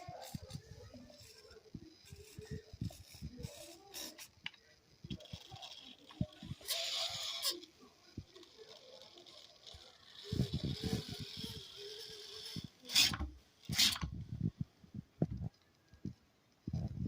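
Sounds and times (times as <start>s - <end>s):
toy gear drive whining: 0.0s - 14.2s.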